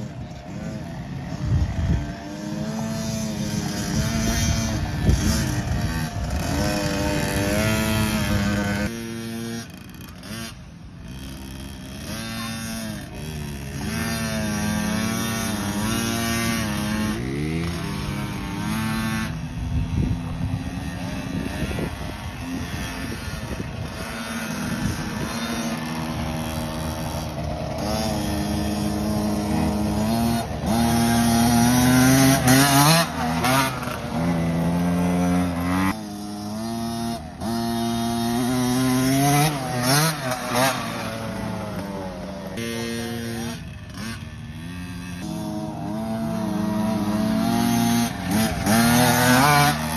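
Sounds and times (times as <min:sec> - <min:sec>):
motocross bikes revving: 0:00.0 - 0:49.9.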